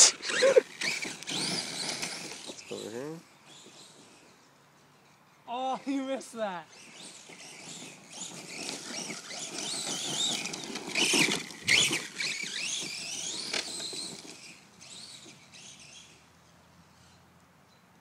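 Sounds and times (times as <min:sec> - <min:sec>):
rc truck motors whining: 0:00.0 - 0:05.2, 0:05.9 - 0:17.2.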